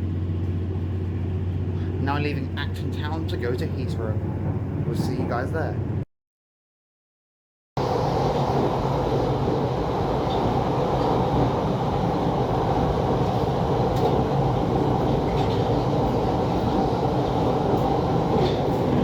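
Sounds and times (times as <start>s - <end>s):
train running along track: 0.0s - 6.0s, 7.8s - 19.0s.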